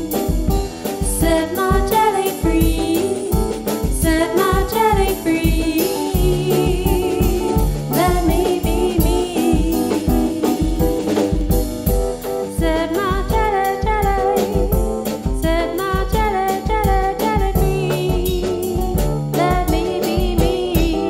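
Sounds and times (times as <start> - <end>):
woman singing with vibrato: 0.0 - 11.9, 12.5 - 21.0
piano chords: 0.0 - 21.0
steady drum beat: 0.0 - 21.0.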